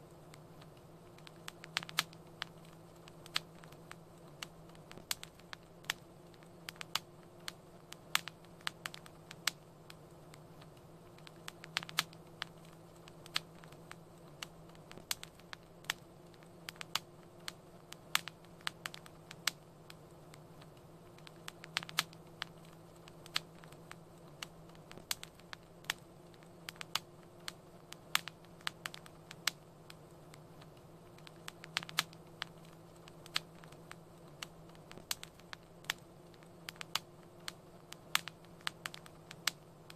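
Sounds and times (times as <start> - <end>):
faint low hum: 0.0 - 39.9
fire crackling: 0.0 - 39.9.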